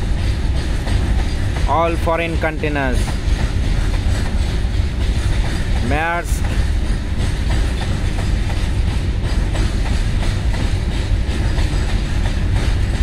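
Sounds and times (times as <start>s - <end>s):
freight train rumbling: 0.0s - 13.0s
wheels clacking over rail joints: 0.0s - 13.0s.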